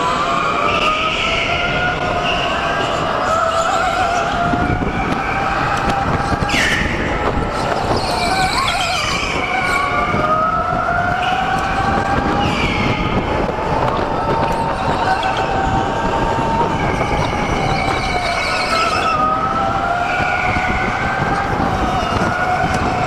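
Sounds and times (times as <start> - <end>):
electric go-kart motors whining: 0.0 - 23.0.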